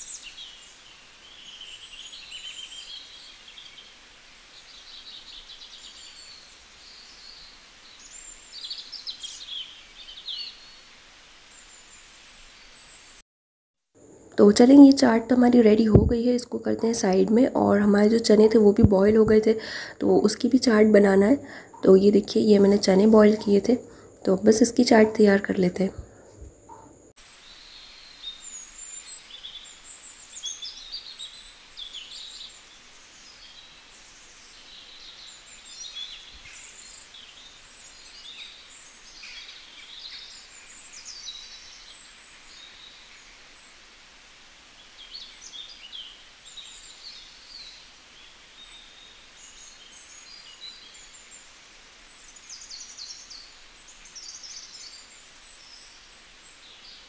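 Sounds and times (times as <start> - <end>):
faint steady hiss: 0.0 - 13.2, 13.9 - 57.0
small birds chirping: 0.0 - 13.2, 14.2 - 57.0.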